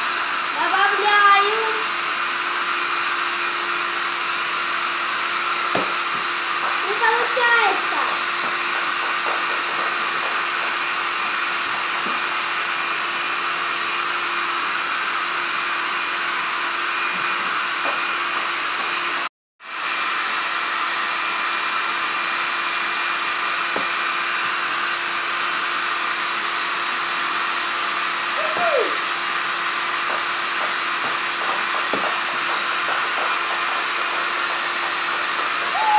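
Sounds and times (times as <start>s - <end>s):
hair dryer blowing: 0.0s - 35.9s.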